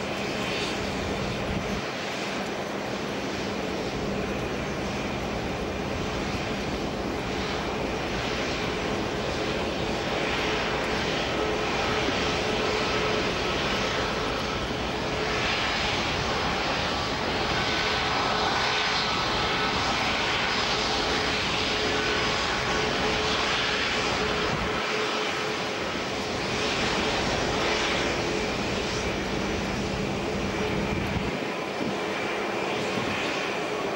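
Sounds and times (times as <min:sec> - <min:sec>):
jet engine whine: 0:00.0 - 0:33.9.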